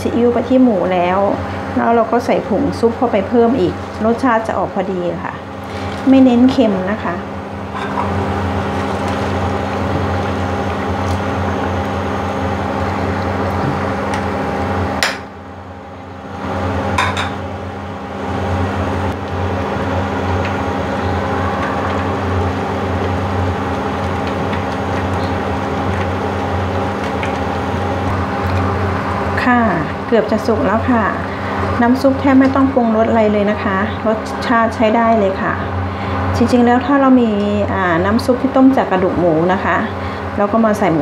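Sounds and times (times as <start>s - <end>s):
induction cooker electric hum: 0.0s - 41.0s.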